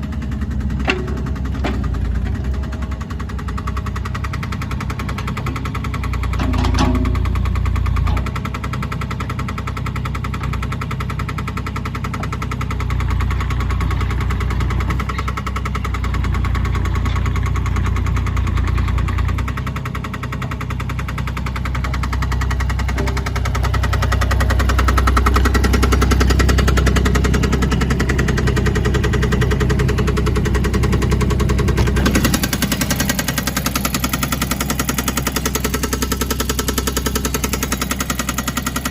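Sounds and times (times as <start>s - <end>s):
diesel engine knocking clatter: 0.0s - 38.9s.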